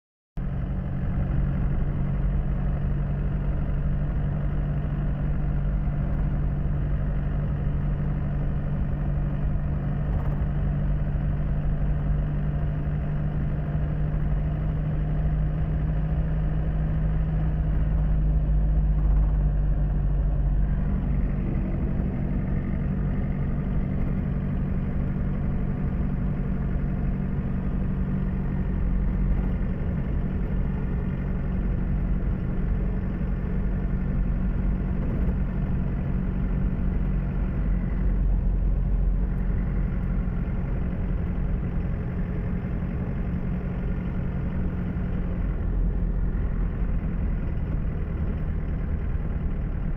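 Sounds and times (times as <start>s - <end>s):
engine hum: 0.4s - 49.9s.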